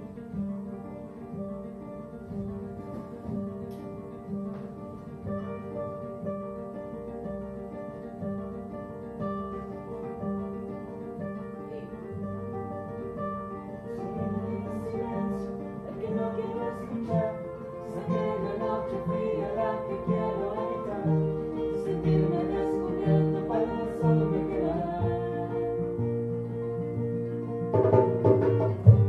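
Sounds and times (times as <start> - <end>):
plucked guitar music: 0.0 - 29.0.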